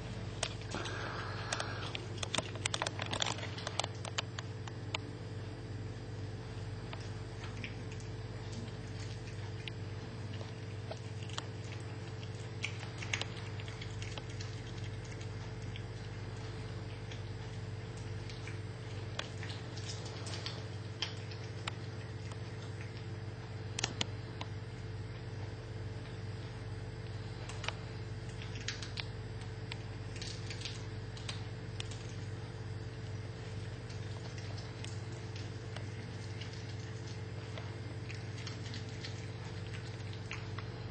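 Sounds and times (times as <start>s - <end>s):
cat chewing and crunching bones: 0.0s - 40.9s
low hum: 0.0s - 40.9s.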